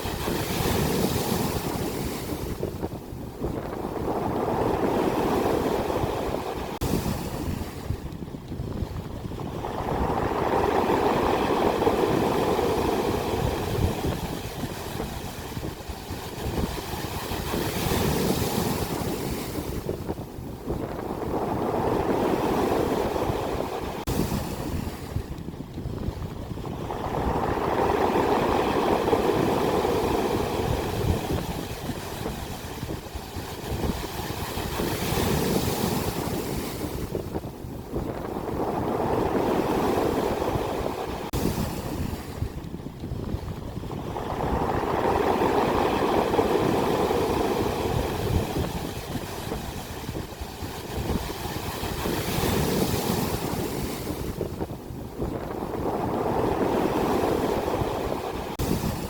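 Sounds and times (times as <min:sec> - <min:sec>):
ocean waves crashing: 0:00.0 - 0:08.1, 0:08.7 - 0:42.6, 0:43.2 - 0:59.0.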